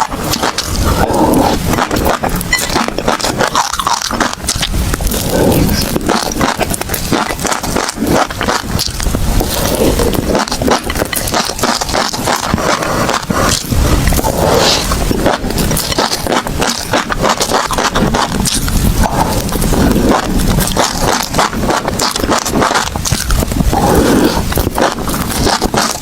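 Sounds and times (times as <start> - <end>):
chewing crunchy food: 0.0 - 26.0.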